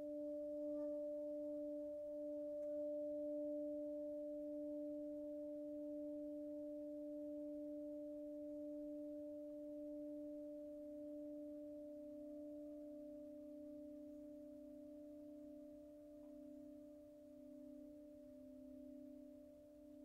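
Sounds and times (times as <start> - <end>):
singing bowl ringing: 0.0 - 20.0.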